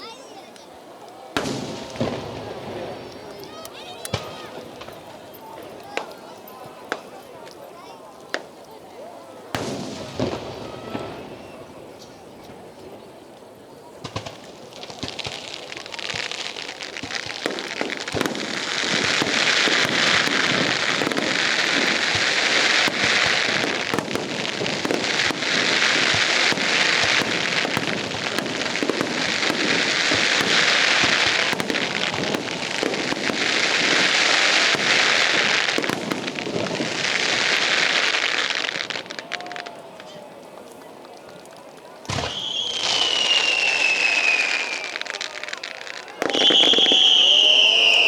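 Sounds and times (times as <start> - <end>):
fireworks crackling: 0.0 - 48.0
firework bangs and pops: 1.4 - 7.6, 9.5 - 13.1, 14.0 - 48.0.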